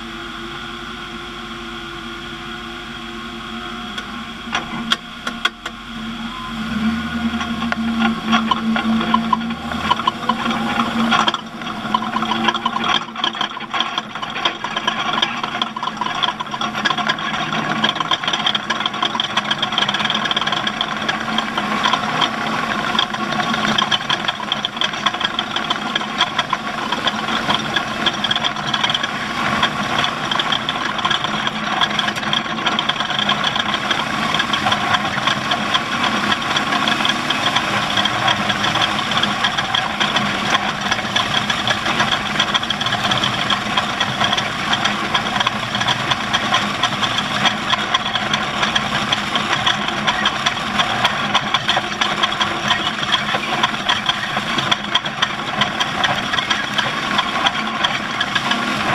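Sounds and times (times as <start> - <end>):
steady hum: 0.0 - 57.0
race vehicle engine running: 0.0 - 58.9
clatter of rattles: 4.0 - 58.9.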